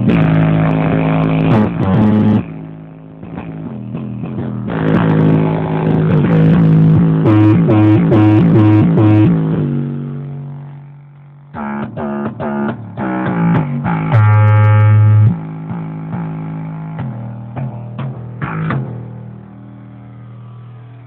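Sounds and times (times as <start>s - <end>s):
guitar and bass music on car stereo: 0.0s - 21.0s
loud held low bass note: 0.0s - 21.0s.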